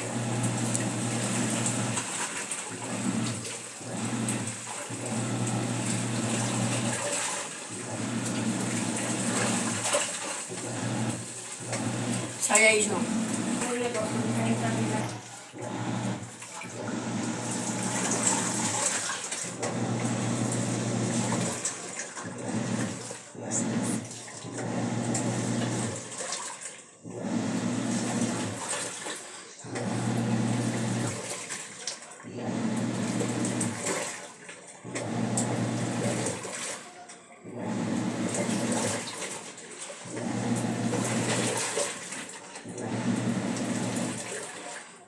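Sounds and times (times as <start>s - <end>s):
washing machine motor hum: 0.0s - 45.0s
water and clothes sloshing: 0.0s - 45.0s.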